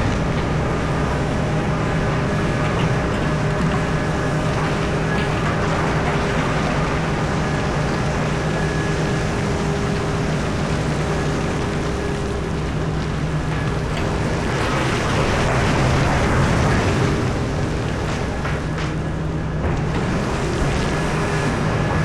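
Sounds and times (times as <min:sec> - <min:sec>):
excavator engine running under load: 0:00.0 - 0:22.0.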